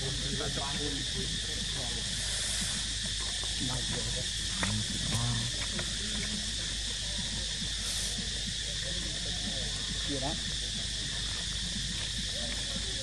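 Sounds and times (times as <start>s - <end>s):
faint voices murmuring: 0.0s - 13.0s
insect chorus drone: 0.0s - 13.0s.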